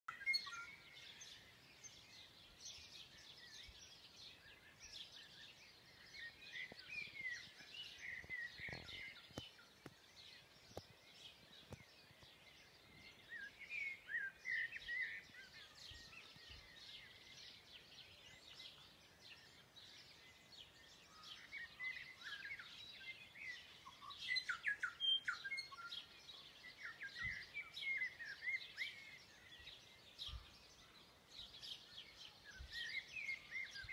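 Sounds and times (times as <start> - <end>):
forest birds singing: 0.1 - 33.9.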